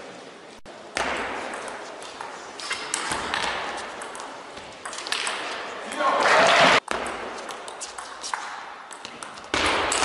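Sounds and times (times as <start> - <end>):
noisy hall background: 0.0 - 10.0.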